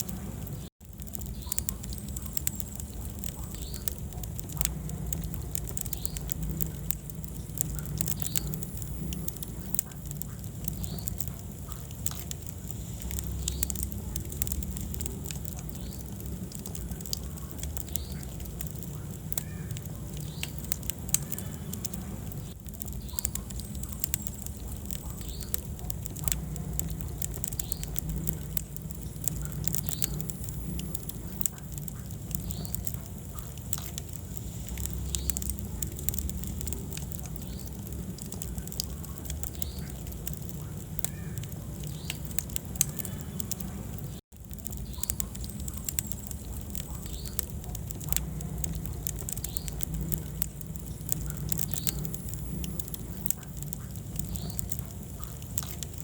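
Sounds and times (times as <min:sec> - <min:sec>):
fire flames rumbling: 0:00.0 - 0:56.0
wood fire crackling and popping: 0:00.0 - 0:56.0.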